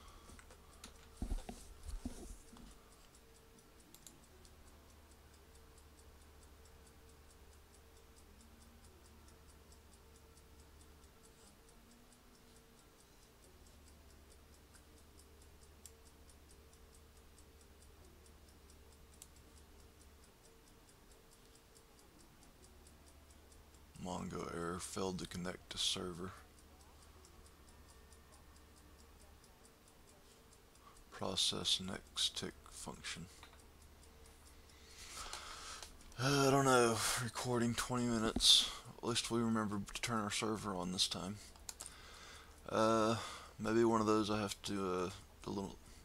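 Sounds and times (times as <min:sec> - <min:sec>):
faint regular ticking: 0:00.0 - 0:46.0
sharp clicks: 0:02.4 - 0:09.2, 0:10.1 - 0:46.0.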